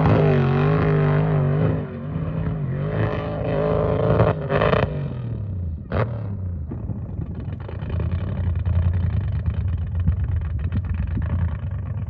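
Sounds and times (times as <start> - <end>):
car engine droning under load: 0.0 - 12.0.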